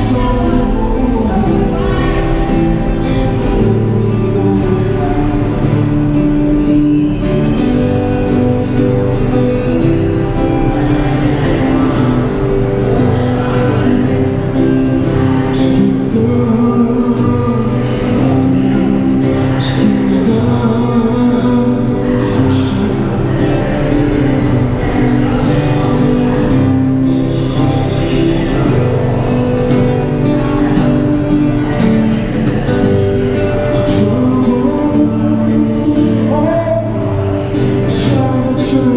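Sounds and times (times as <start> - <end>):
man singing: 0.0 - 8.8, 9.4 - 31.2, 32.9 - 38.9
acoustic guitar: 0.0 - 38.9.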